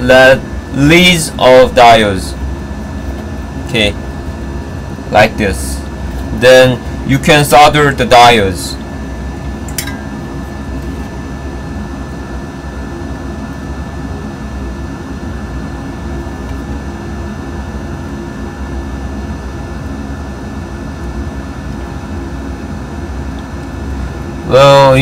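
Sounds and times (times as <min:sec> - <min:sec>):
faint high whine: 0:00.0 - 0:25.0
machine hum: 0:00.0 - 0:25.0.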